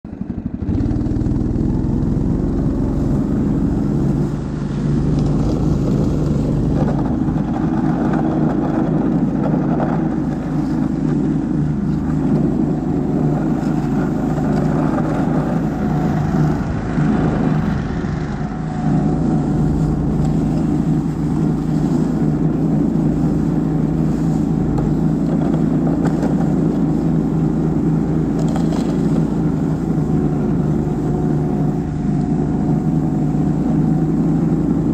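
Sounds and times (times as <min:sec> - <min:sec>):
towing unit engine running: 0:00.0 - 0:34.9.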